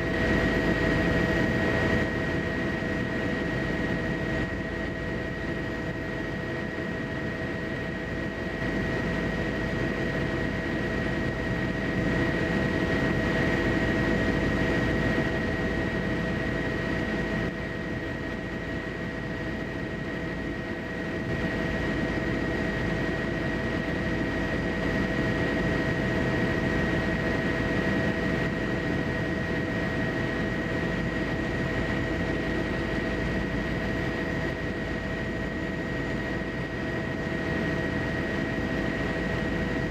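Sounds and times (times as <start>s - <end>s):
aircraft engine whine and rumble: 0.0s - 39.9s.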